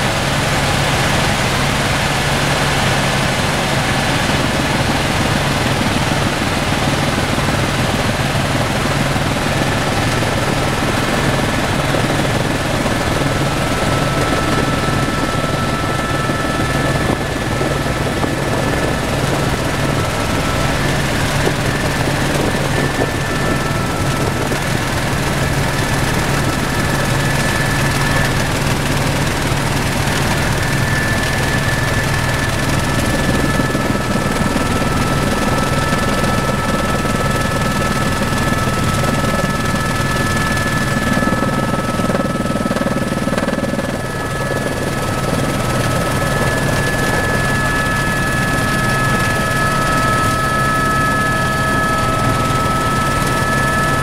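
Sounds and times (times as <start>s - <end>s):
helicopter rotor and engine: 0.0s - 54.0s.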